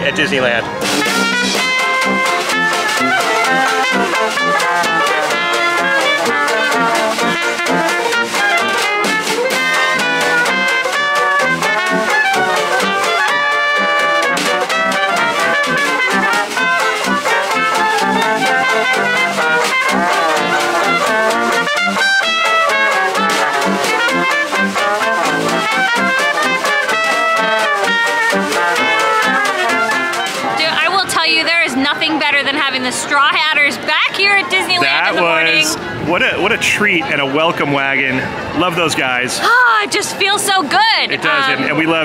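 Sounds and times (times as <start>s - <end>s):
jazz band playing live: 0.0s - 37.3s, 38.2s - 42.0s.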